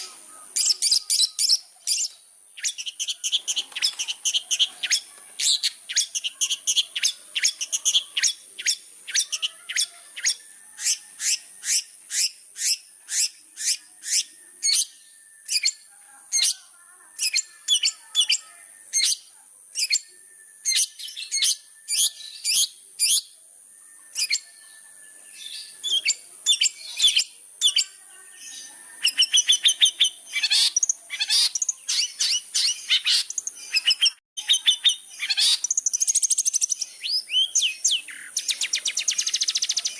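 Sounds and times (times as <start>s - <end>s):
bird chirping rapidly: 0.0s - 23.4s, 24.1s - 39.9s.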